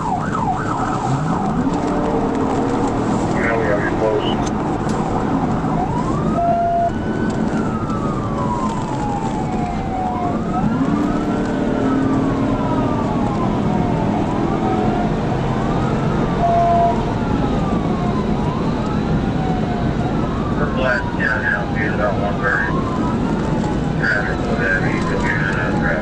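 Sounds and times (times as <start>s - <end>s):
police siren wailing: 0.0s - 26.0s
road and wind noise: 0.0s - 26.0s.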